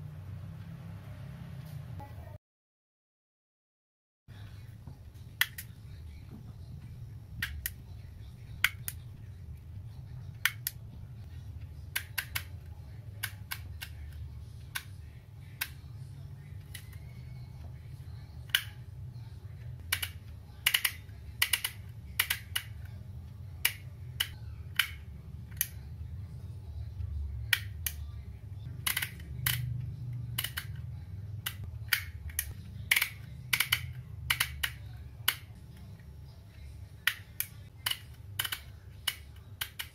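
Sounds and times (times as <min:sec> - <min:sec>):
low steady hum: 0:04.3 - 0:39.9.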